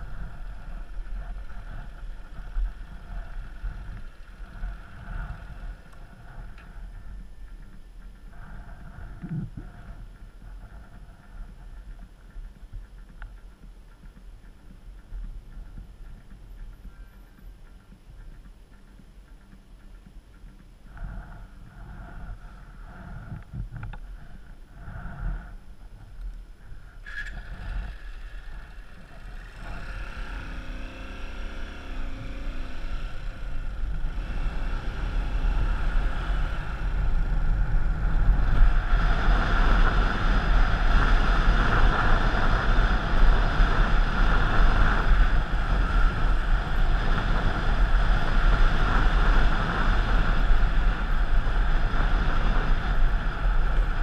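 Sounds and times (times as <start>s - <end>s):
moving vehicle rumble: 0.0s - 54.0s
wind buffeting microphone: 0.0s - 54.0s.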